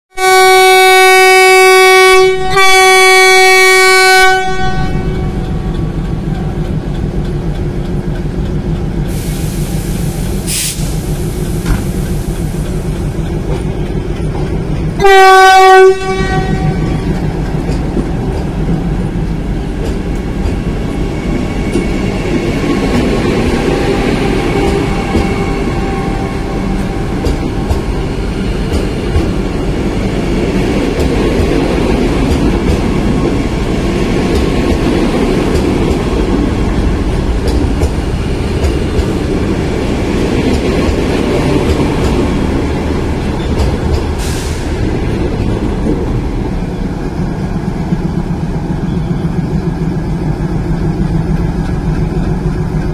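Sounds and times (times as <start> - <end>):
train wheels rumbling on track: 0.1 - 52.9.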